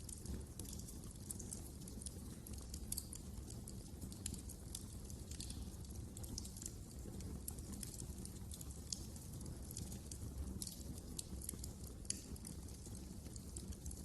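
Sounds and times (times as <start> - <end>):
fire crackling: 0.0 - 14.0
low steady fire rumble: 0.0 - 14.0.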